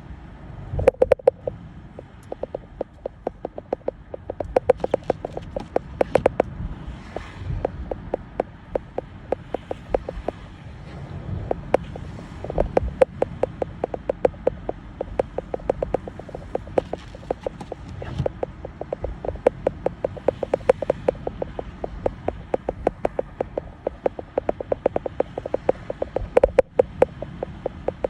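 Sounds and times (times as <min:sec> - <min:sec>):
rapid sharp clicks: 0:00.8 - 0:06.5, 0:07.1 - 0:10.4, 0:11.5 - 0:28.0.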